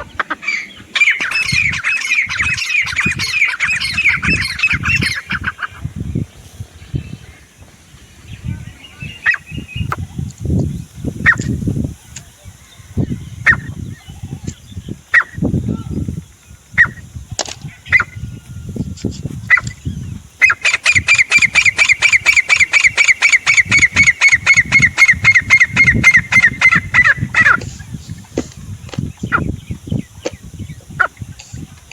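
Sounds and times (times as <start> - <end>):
francolin calling: 0.0 - 31.9.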